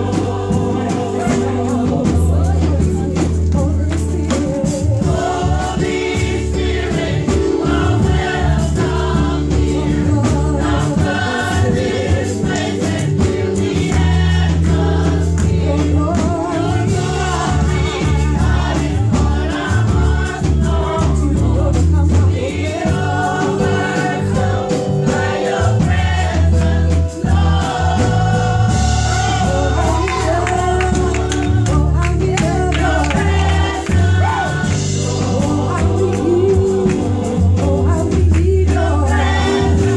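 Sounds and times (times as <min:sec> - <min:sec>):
band with bass and drums: 0:00.0 - 0:39.9
women's vocal group singing gospel: 0:00.0 - 0:39.9.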